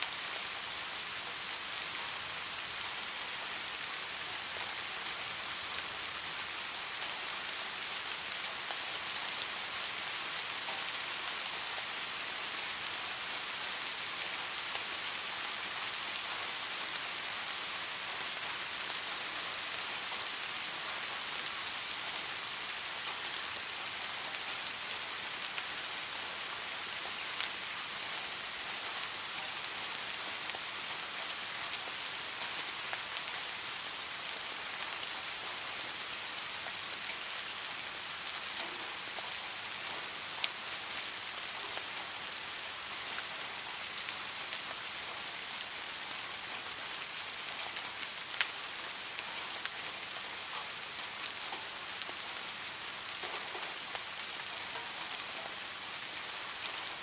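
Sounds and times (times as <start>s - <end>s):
rain on hard surface: 0.0s - 57.0s.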